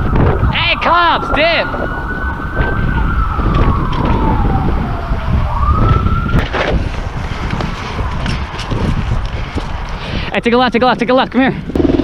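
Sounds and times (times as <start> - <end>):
police siren wailing: 0.0 - 9.4, 10.2 - 11.1.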